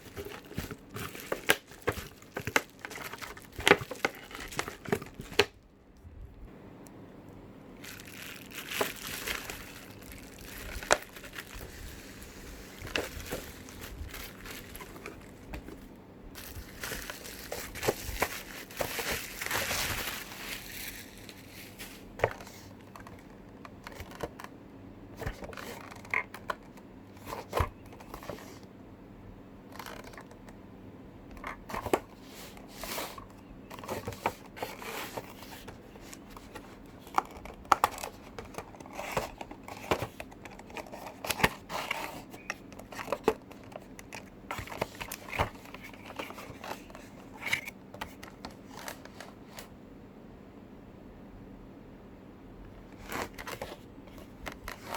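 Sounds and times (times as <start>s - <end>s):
packaging crinkling and rustling: 0.0s - 5.6s, 7.8s - 24.5s, 25.2s - 28.6s, 29.7s - 30.4s, 31.4s - 49.7s, 52.8s - 54.9s.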